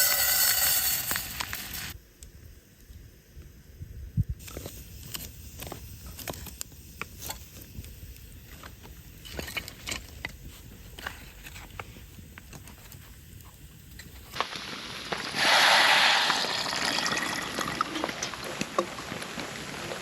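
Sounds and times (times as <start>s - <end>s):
campfire crackling and popping: 0.0s - 3.6s, 4.3s - 20.0s.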